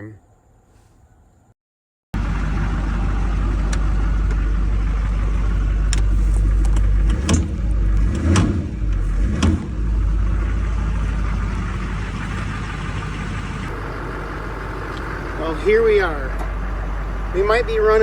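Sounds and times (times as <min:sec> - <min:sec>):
diesel engine running: 0:02.2 - 0:18.0.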